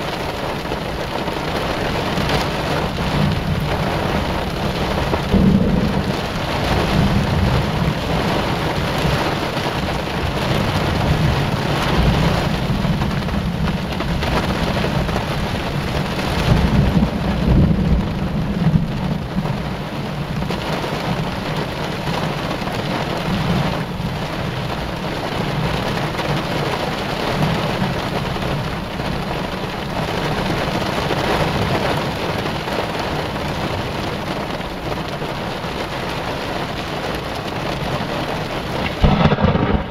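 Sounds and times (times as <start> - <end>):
thunder rumbling: 0.0 - 32.4, 36.3 - 39.9
heavy rain on a car: 0.0 - 39.9.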